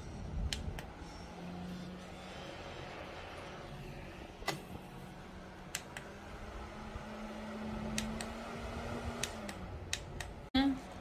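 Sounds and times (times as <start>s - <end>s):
handheld fan motor humming: 0.0s - 11.0s.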